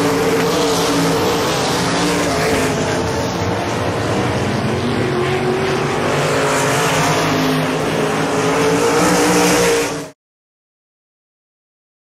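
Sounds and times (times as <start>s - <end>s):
race car engines passing: 0.0s - 10.2s.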